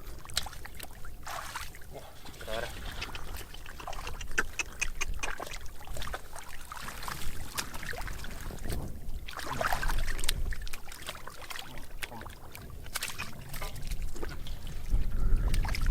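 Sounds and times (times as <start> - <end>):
water splashing and sloshing: 0.0 - 15.9.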